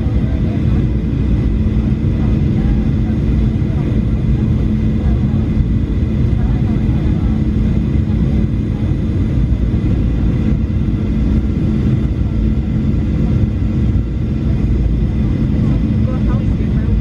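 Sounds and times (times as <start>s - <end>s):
jet engine drone: 0.0s - 17.0s.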